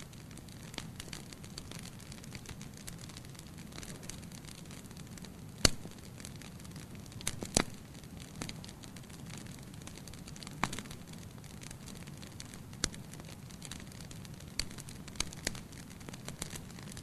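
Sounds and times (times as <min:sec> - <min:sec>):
fire crackles: 0:00.0 - 0:17.0
loud pops from fire: 0:00.0 - 0:17.0.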